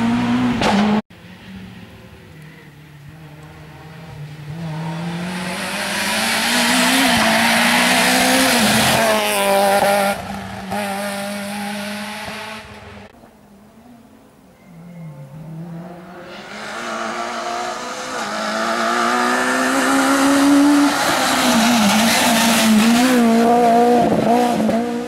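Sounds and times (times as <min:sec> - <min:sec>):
rally car engine at full throttle: 0:00.0 - 0:13.1, 0:14.9 - 0:25.0.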